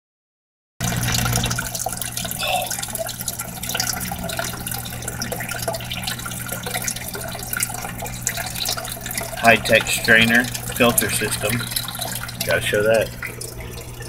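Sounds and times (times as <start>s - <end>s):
water splashing into fish tank: 0.8s - 14.0s.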